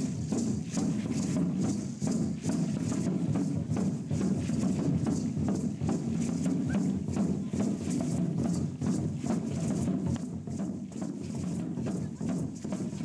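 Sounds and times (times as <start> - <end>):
drum beating dance rhythm: 0.0 - 13.0.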